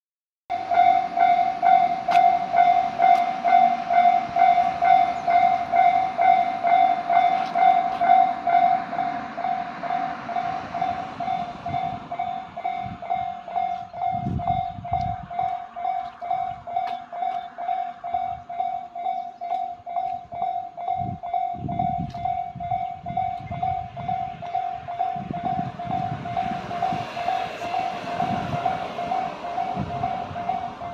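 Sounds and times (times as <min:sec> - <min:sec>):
level crossing warning bell: 0:00.5 - 0:30.9
train rumbling over crossing: 0:00.5 - 0:30.9.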